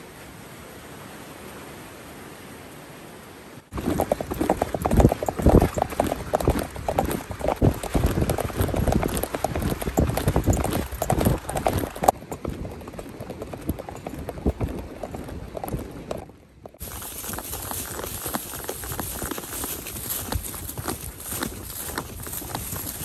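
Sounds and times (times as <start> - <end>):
horse hoofbeats: 3.7 - 23.0.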